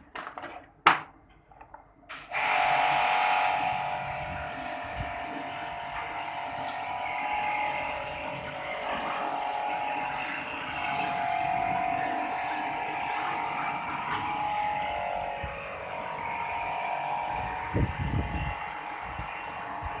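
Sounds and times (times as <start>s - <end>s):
small electric motor humming: 2.3s - 20.0s.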